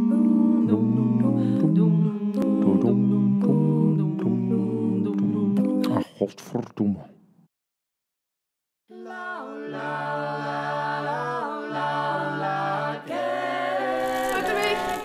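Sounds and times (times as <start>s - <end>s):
vocal group singing a cappella: 0.0s - 6.2s, 8.9s - 15.0s.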